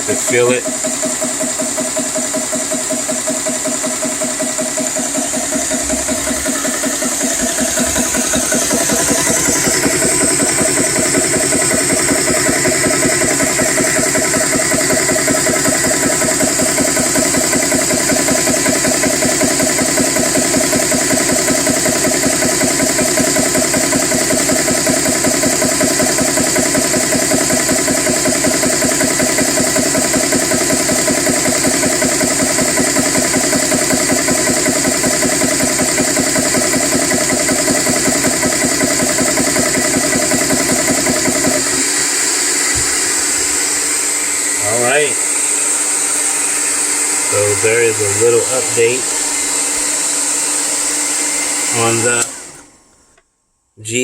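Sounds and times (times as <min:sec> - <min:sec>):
air compressor pump chugging: 0:00.0 - 0:53.2.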